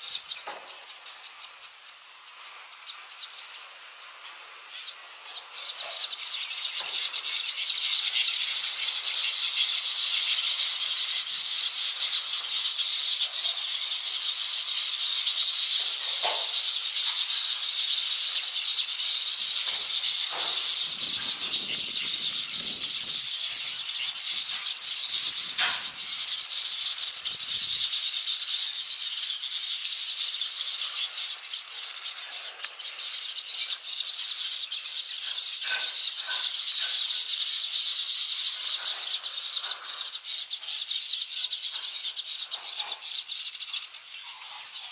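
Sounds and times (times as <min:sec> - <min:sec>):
weaver birds chattering: 0:00.0 - 0:44.9.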